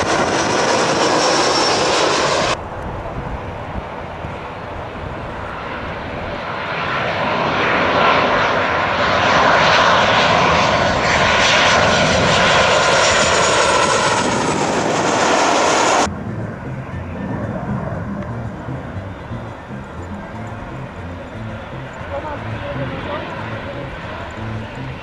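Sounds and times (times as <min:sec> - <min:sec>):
falling jet whine: 0:00.0 - 0:25.0
jet engines passing overhead: 0:00.0 - 0:25.0.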